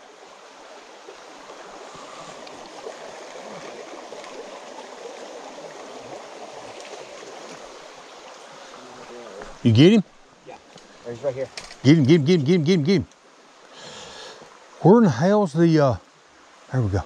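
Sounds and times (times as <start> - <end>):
creek running over stones: 0.0 - 17.0.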